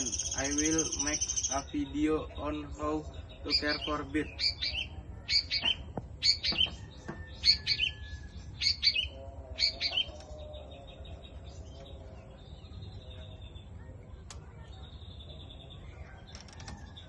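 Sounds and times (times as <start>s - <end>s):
bird chirping: 0.0s - 13.9s.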